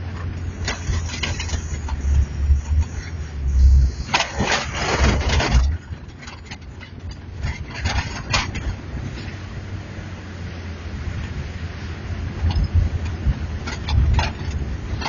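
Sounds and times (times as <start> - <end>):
rattling and scraping: 0.0 - 9.5, 12.4 - 15.0
engine and road rumble: 0.0 - 15.0.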